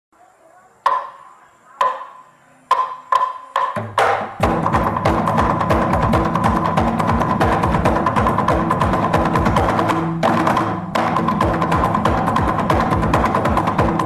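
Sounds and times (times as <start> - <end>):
fast dense percussion rhythm: 2.7 - 14.0.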